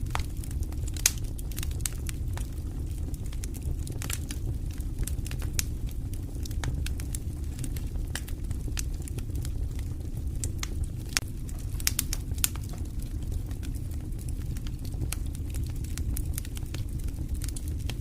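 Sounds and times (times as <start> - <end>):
campfire crackling: 0.0 - 18.0
fire popping: 0.0 - 18.0
low rumble: 0.0 - 18.0.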